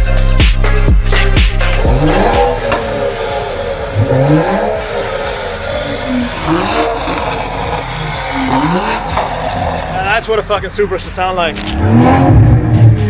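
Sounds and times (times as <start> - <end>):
car engine revving: 0.0 - 13.0
electronic music: 0.0 - 13.0.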